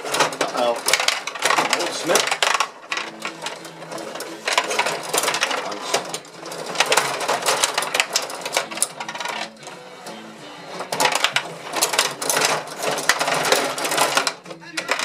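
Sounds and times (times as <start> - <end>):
table hockey rods clattering: 0.0 - 15.0.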